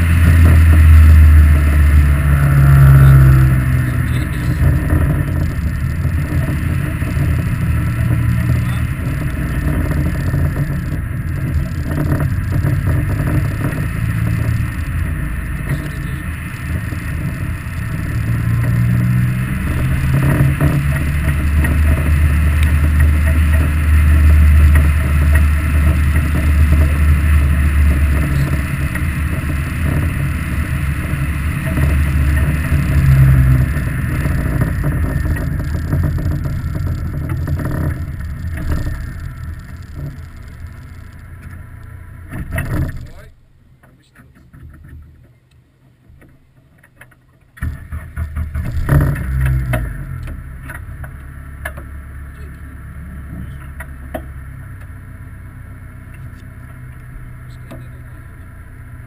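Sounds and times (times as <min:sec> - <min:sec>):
car engine revving: 0:00.0 - 0:45.0, 0:47.6 - 0:59.0.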